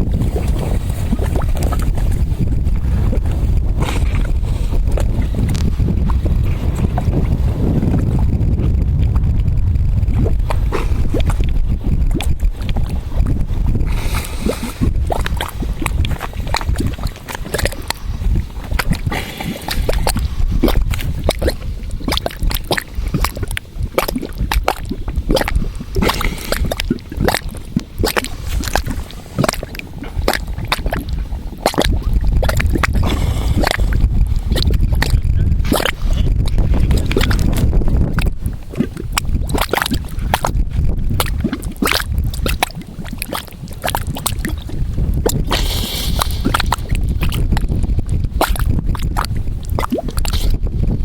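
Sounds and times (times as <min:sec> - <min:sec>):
mud bubbles popping: 0:00.0 - 0:51.0
wind on microphone: 0:00.0 - 0:51.0.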